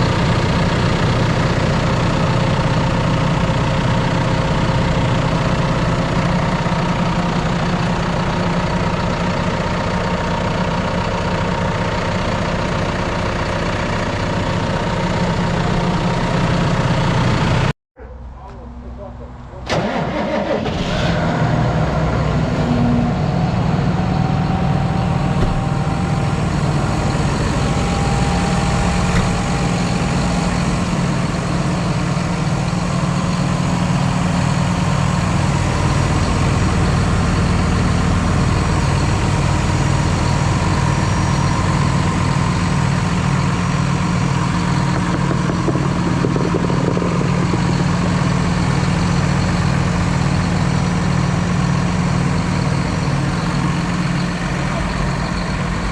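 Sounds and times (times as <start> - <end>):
tractor diesel engine idling: 0.0 - 55.9.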